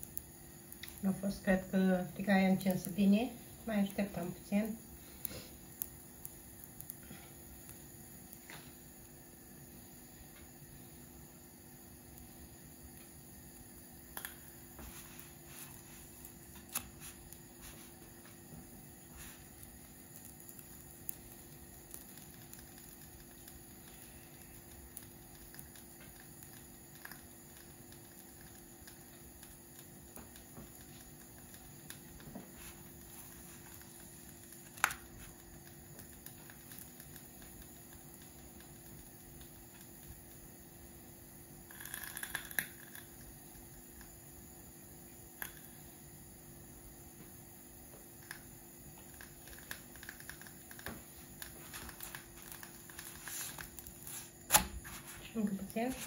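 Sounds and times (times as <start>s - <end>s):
batter sizzling in a pan: 0.0s - 56.0s.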